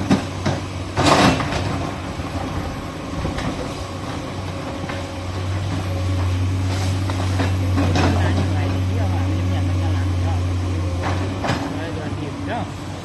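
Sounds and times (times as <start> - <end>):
excavator diesel engine drone: 0.0 - 13.0.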